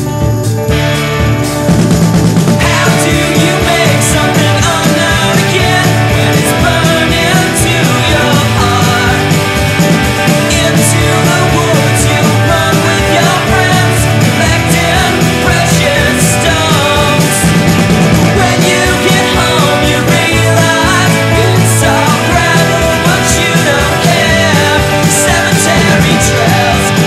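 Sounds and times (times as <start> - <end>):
rock song playing: 0.0 - 27.0.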